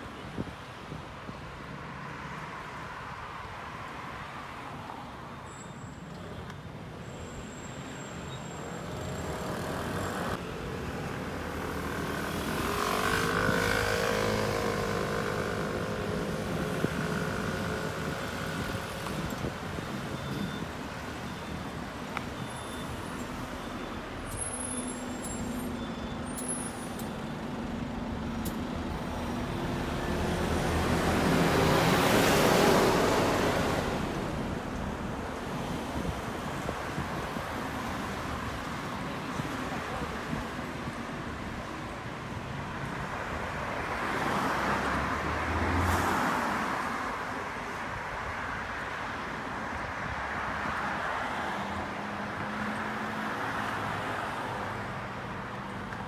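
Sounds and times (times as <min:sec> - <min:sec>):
scooters and cars passing: 0:03.8 - 0:56.0.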